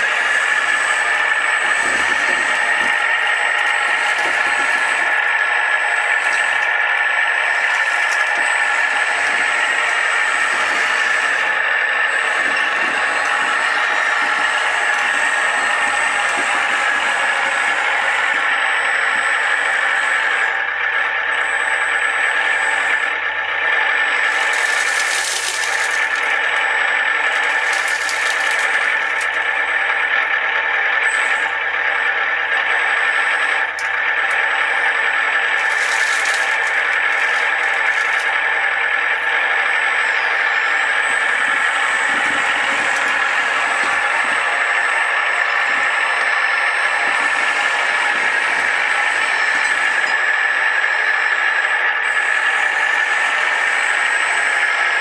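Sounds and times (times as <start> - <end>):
model trucks whining and rattling: 0.0 - 55.0.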